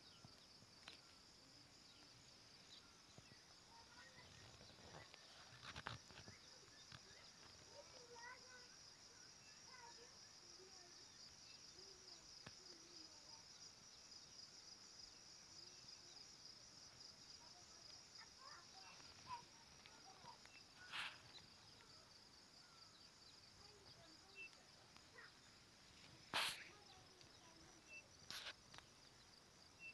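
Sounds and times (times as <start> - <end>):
insect chorus trilling: 0.0 - 29.9.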